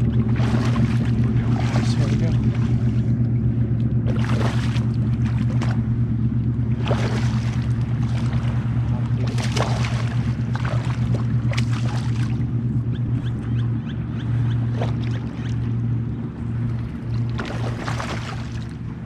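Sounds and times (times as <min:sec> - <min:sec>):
steady low hum: 0:00.0 - 0:19.0
water splashing against hull: 0:00.0 - 0:19.0.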